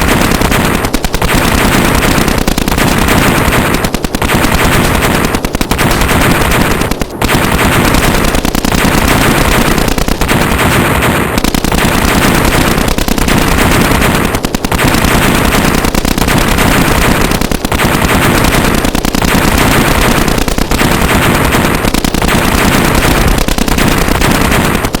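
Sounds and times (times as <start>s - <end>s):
rapid machine-gun fire: 0.0s - 25.0s.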